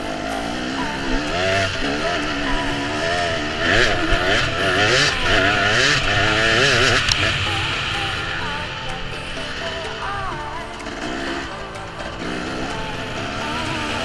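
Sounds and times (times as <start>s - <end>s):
racing engines revving: 0.0s - 14.0s.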